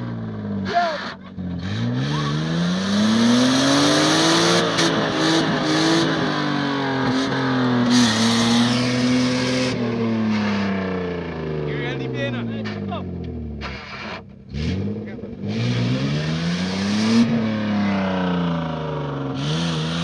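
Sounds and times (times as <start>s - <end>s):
car engine revving hard: 1.4s - 20.0s.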